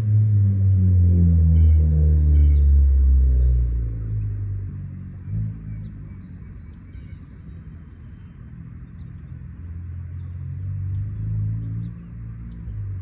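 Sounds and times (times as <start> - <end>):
car exhaust drone: 0.0 - 13.0.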